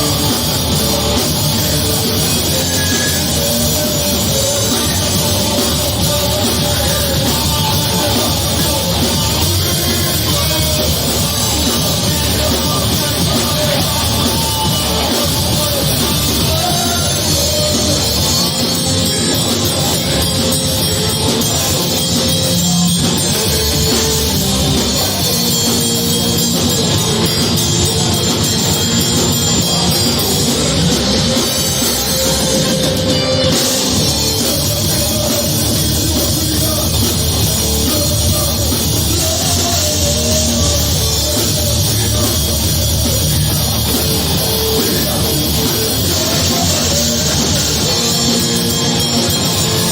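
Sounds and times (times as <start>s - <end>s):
drums: 0.0s - 49.9s
rock band playing heavy metal: 0.0s - 49.9s.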